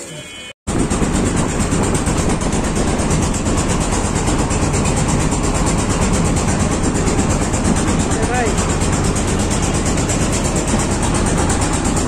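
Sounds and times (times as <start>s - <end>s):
boat engine running: 0.7s - 12.0s.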